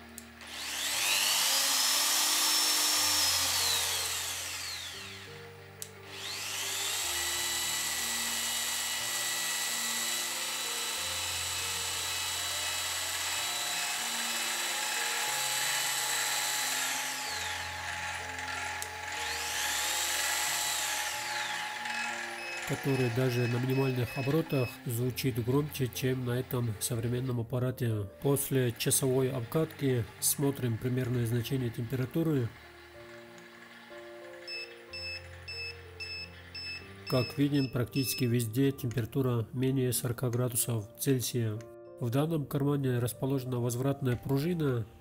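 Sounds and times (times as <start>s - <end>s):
drill press motor whining: 0.0s - 27.3s, 28.4s - 38.3s.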